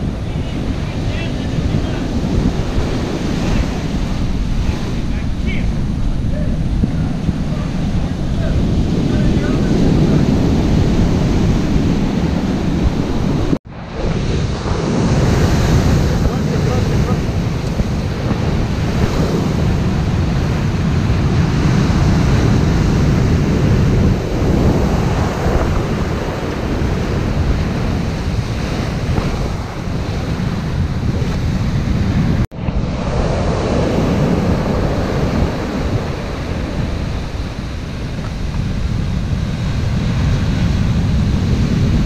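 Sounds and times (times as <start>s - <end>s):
waves breaking on beach: 0.0s - 42.0s
wind buffeting microphone: 0.0s - 42.0s.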